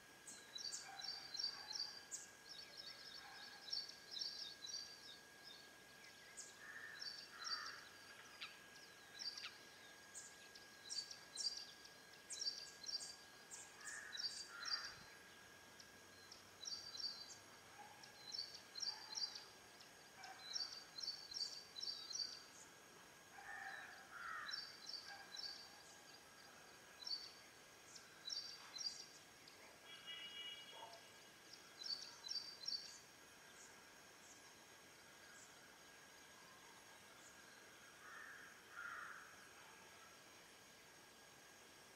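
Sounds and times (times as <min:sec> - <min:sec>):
faint steady tone: 0:00.0 - 0:41.9.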